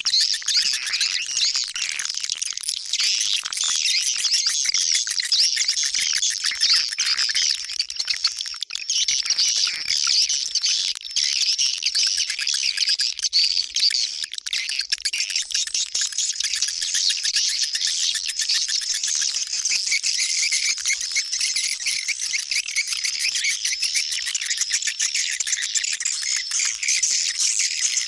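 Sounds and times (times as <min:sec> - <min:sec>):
swiftlets twittering and chirping: 0:00.0 - 0:28.0.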